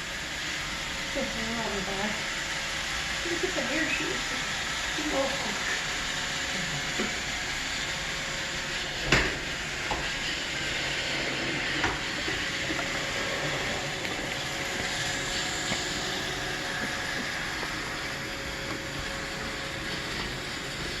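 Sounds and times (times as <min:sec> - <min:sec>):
robot vacuum whirring: 0:00.0 - 0:21.0.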